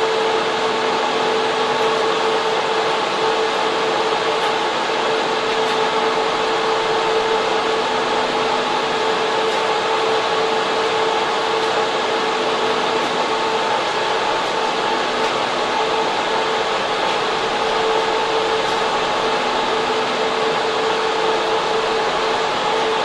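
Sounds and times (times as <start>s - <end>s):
constant two-tone hum: 0.0s - 23.0s
server cooling fans rushing: 0.0s - 23.0s.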